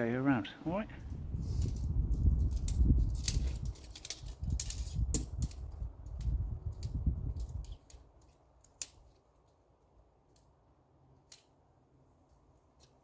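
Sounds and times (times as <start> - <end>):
clicking and rustling handling noise: 1.0 - 13.0.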